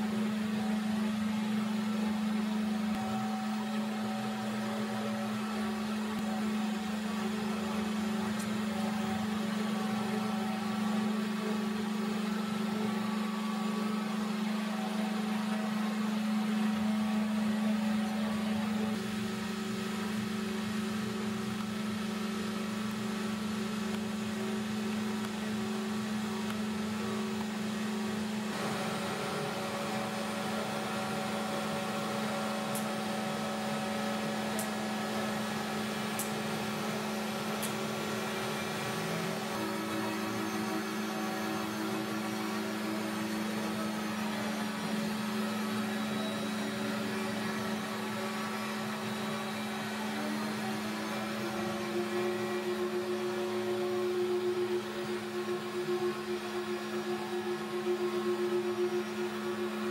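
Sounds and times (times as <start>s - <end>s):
electric machine hum: 0.0s - 59.9s.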